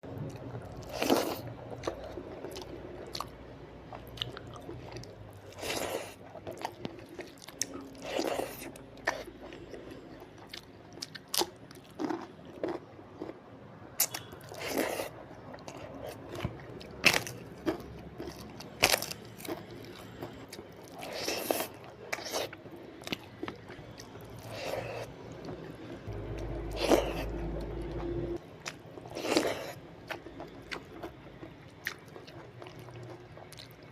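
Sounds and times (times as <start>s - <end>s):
person chewing and crunching: 0.1s - 13.4s, 14.0s - 33.9s.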